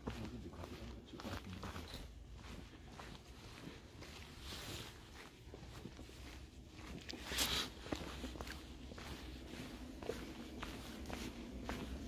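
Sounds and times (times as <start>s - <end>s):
footsteps on gravel: 0.0s - 12.0s.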